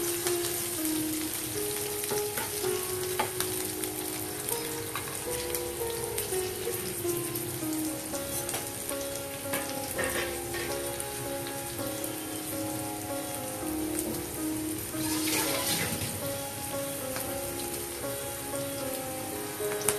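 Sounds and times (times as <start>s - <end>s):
onions sizzling in hot oil: 0.0s - 19.9s.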